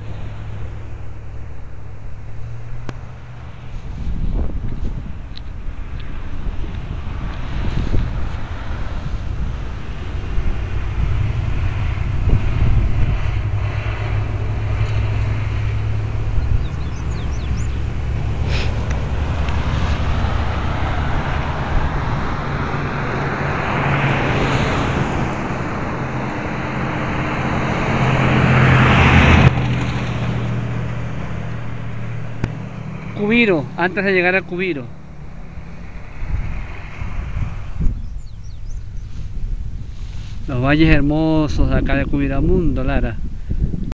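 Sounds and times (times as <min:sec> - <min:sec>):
vehicle engine running: 0:00.0 - 0:41.9
rushing wind and road noise: 0:00.0 - 0:43.9.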